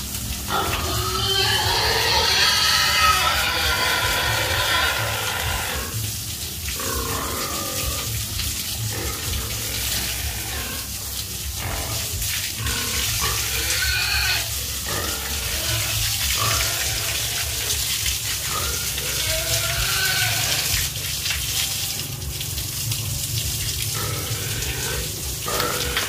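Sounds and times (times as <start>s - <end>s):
water spray hissing and splashing: 0.0s - 26.0s
piglets grunting and squealing: 0.5s - 21.0s, 23.9s - 26.0s.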